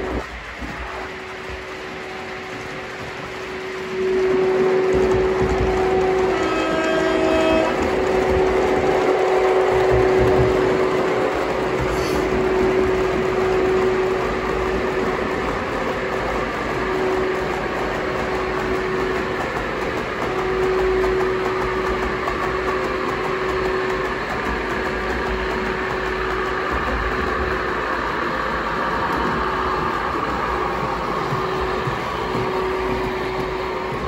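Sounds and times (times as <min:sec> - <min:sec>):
model train running with hum: 0:00.0 - 0:34.0.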